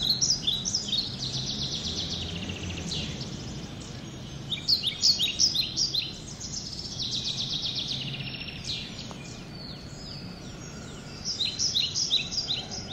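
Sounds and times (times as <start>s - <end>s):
birds singing: 0.0s - 12.9s.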